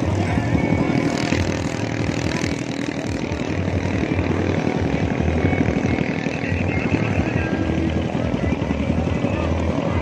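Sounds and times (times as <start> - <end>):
boat engine pulsing: 0.0 - 10.0.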